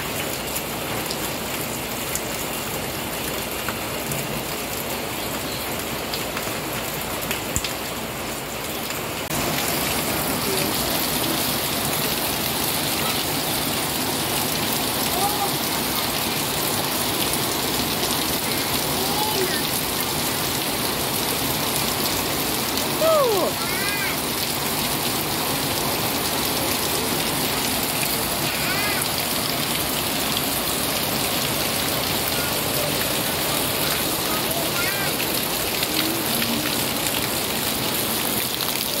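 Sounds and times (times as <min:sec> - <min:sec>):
heavy rain on leaves: 0:00.0 - 0:39.0
rain splashing into puddles: 0:00.0 - 0:39.0.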